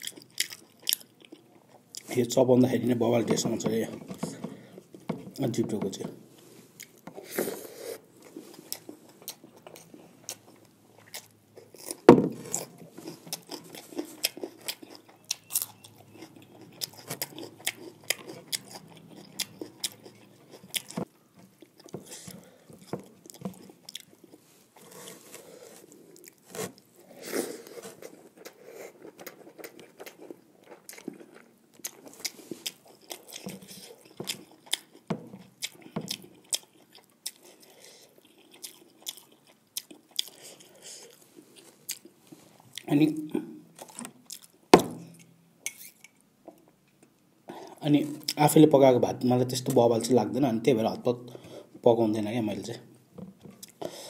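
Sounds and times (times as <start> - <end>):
person chewing and crunching: 0.0 - 6.0, 6.8 - 48.5, 53.4 - 54.0.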